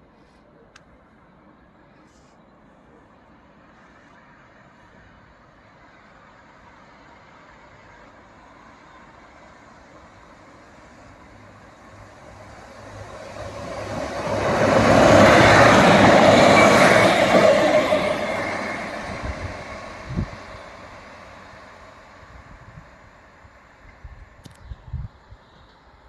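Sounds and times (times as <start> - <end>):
train passing: 0.9 - 24.4.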